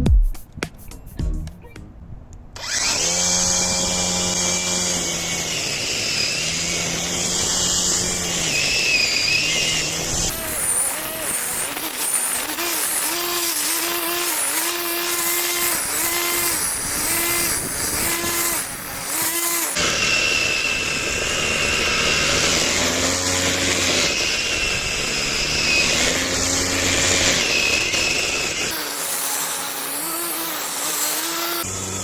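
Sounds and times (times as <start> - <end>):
angle grinder running: 2.6 - 32.0.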